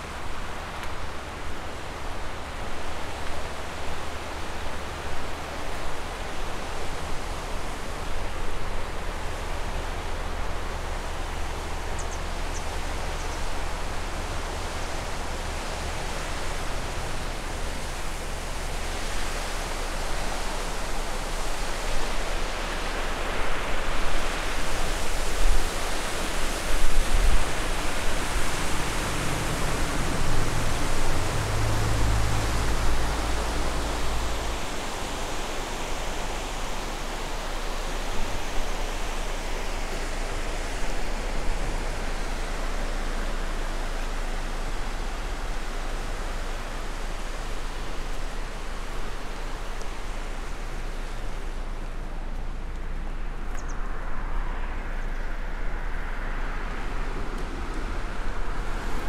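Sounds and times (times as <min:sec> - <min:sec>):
river water rushing over weir: 0:00.0 - 0:59.0.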